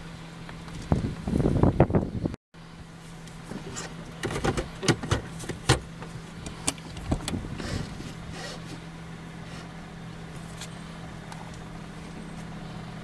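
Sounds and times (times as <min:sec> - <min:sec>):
suv engine running at low revs: 0:00.0 - 0:13.0.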